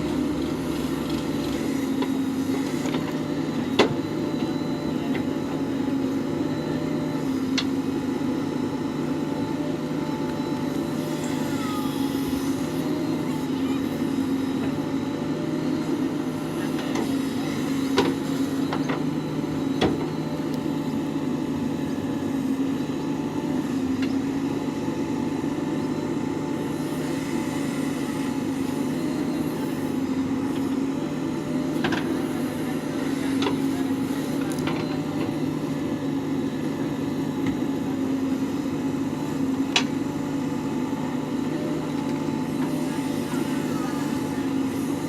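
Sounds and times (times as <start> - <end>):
diesel engine running: 0.0 - 39.6.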